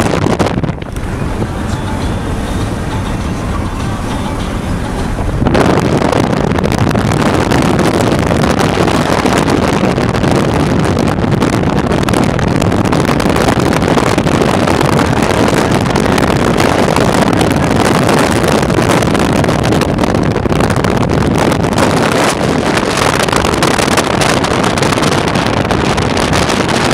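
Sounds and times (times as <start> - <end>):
wind buffeting microphone: 0.0 - 26.9
wind rush and road noise: 0.0 - 26.9.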